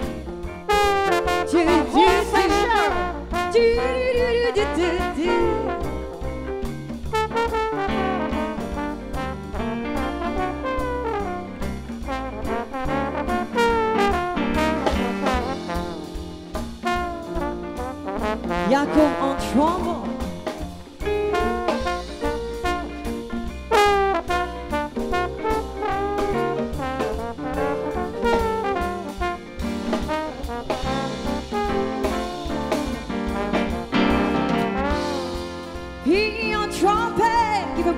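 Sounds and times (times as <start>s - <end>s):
brass horn section: 0.0s - 6.3s, 7.1s - 37.9s
drum kit: 0.0s - 37.9s
upright bass: 0.0s - 37.9s.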